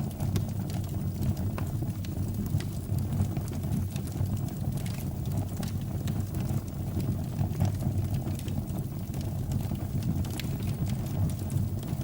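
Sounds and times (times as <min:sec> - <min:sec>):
low rumble of flames: 0:00.0 - 0:12.0
wood fire crackling and popping: 0:00.0 - 0:12.0.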